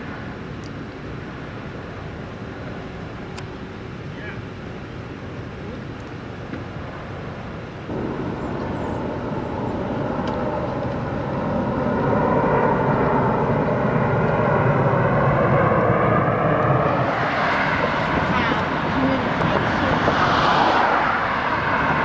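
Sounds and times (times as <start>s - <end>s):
jet aircraft passing overhead: 0.0s - 22.0s.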